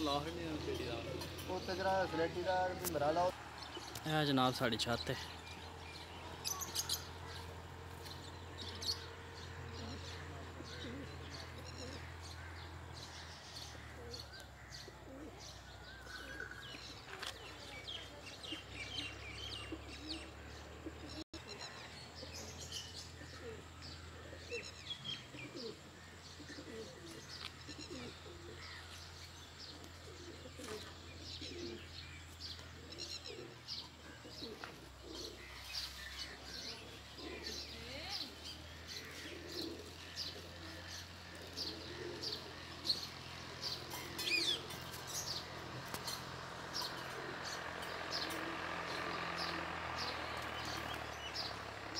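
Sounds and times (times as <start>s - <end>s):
small birds chirping: 0.0s - 51.9s
pigeons cooing: 5.2s - 51.9s.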